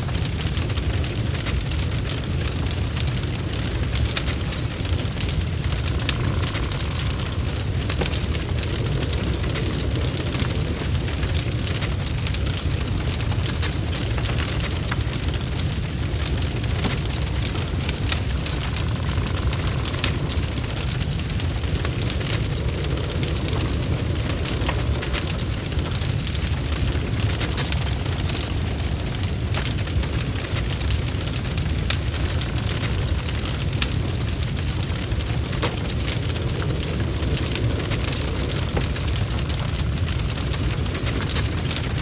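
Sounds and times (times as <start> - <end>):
bonfire crackling: 0.0 - 42.0.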